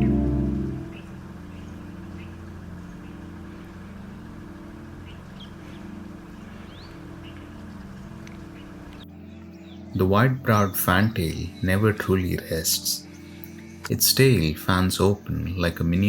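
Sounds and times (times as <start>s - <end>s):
low mechanical hum: 0.0s - 16.0s
small birds chirping: 0.7s - 16.0s.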